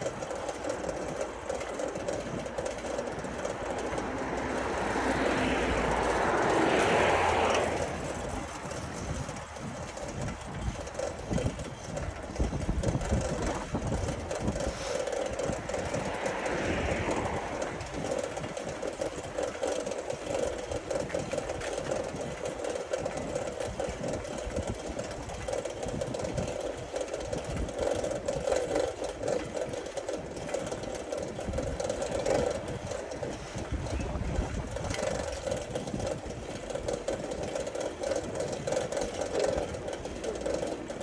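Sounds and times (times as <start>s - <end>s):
bicycle riding hum: 0.0s - 41.0s
wind buffeting microphone: 0.0s - 41.0s.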